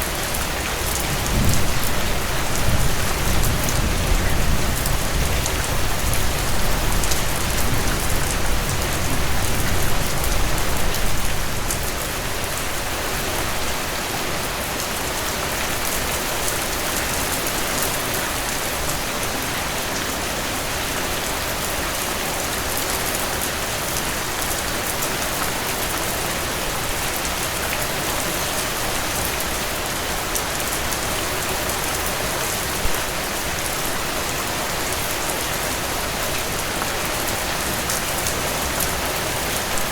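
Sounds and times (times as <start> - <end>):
heavy rain on a porch: 0.0 - 39.9.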